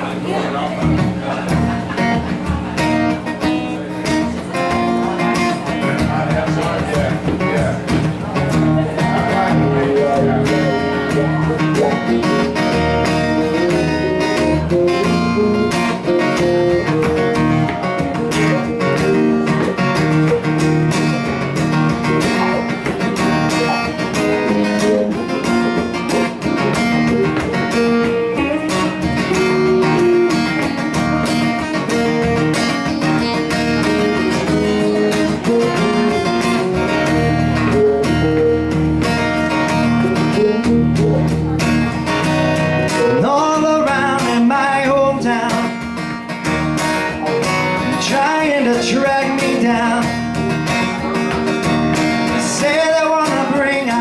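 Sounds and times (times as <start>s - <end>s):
live band guitar instrumental: 0.0s - 54.0s.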